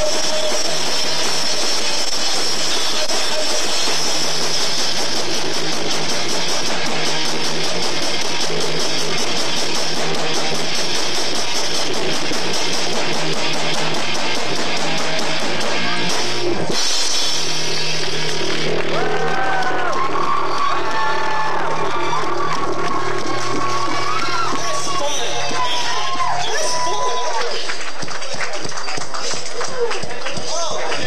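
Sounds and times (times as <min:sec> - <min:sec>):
live rock band playing: 0:00.0 - 0:27.2.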